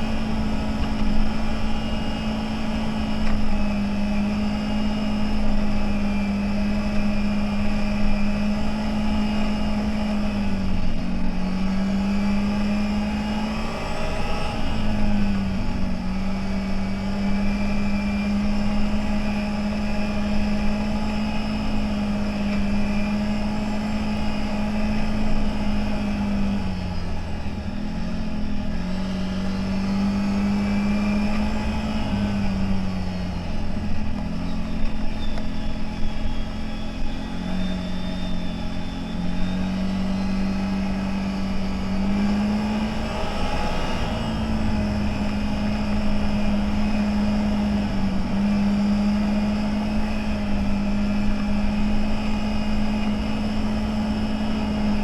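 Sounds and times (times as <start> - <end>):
engine revving under throttle: 0.0 - 55.0.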